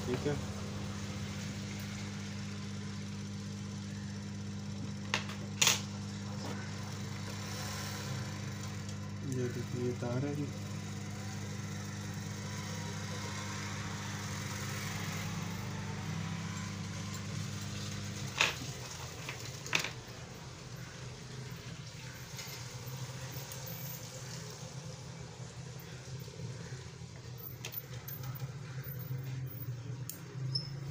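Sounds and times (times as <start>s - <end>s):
machine hum with hiss: 0.0s - 30.9s.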